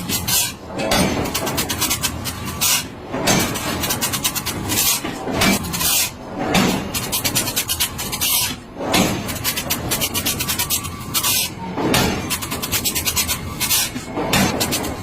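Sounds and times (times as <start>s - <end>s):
harsh metal rasping scrape: 0.0s - 15.0s.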